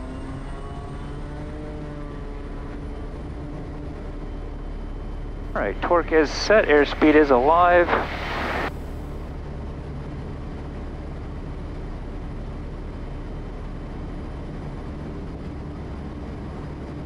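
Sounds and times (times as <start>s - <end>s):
turboprop engine at takeoff power: 0.4s - 17.0s.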